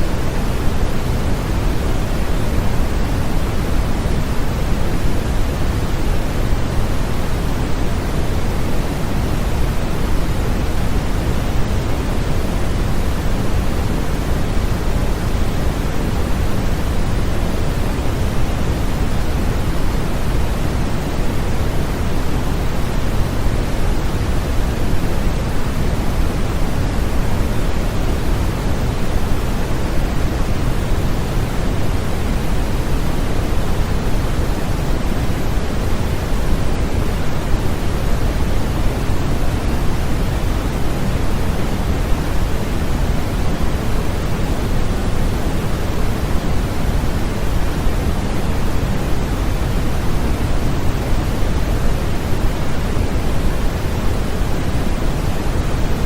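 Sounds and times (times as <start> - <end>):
steady low hiss noise: 0.0 - 56.0.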